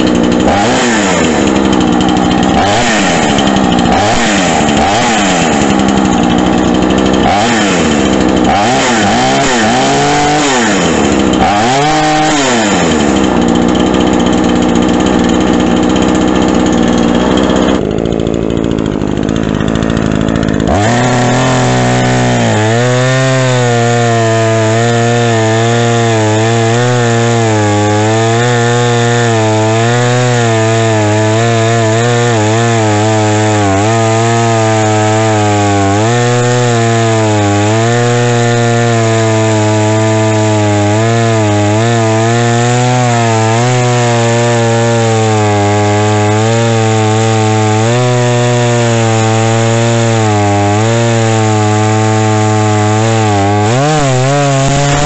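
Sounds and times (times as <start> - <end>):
chainsaw engine revving: 0.0 - 55.0.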